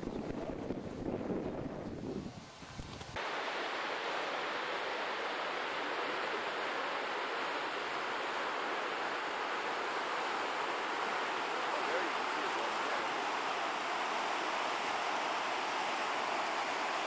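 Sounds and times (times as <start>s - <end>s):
steady even hiss: 2.1s - 17.0s.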